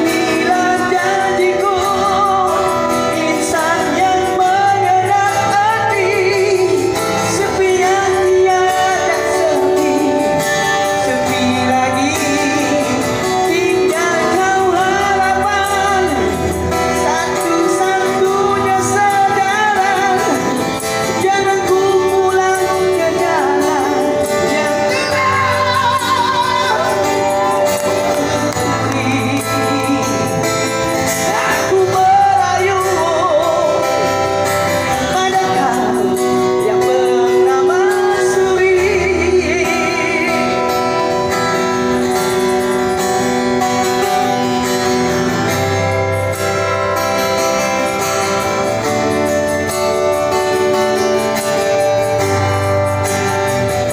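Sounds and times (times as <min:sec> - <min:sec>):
live band music: 0:00.0 - 0:53.9.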